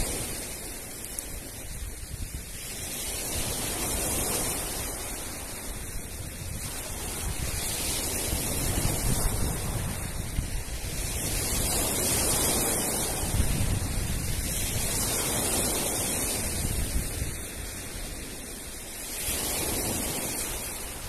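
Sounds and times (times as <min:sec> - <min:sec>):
surf breaking on pebble beach: 0:00.0 - 0:21.0
wind buffeting microphone: 0:00.0 - 0:21.0.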